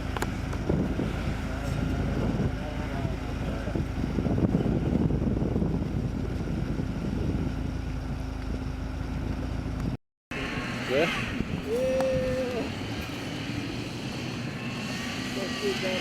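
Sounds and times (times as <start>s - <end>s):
vehicle engine rumbling: 0.0s - 16.0s
wind noise on microphone: 0.0s - 16.0s.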